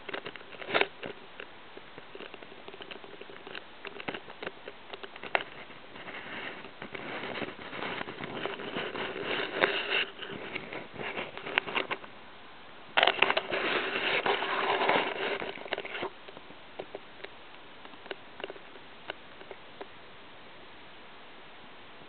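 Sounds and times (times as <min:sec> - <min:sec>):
rustling on microphone: 0:00.0 - 0:12.2, 0:13.0 - 0:20.0
faint steady hum: 0:00.0 - 0:22.0.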